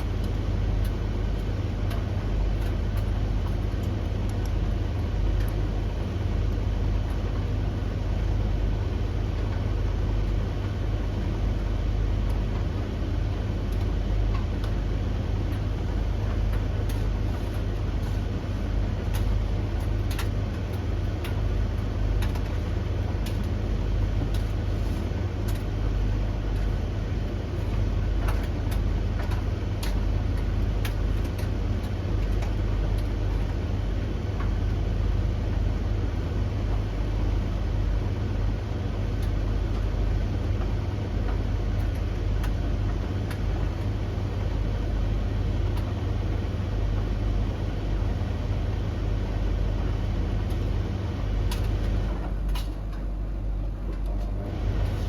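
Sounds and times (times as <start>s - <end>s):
light clicks of tumbling items: 0.0s - 55.0s
tumble dryers humming: 0.0s - 55.0s.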